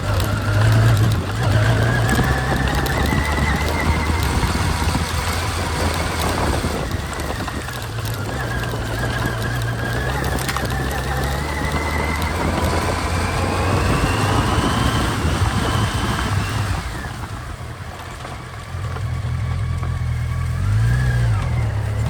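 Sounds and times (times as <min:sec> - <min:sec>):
motorcycle engine whine: 0:00.0 - 0:22.0.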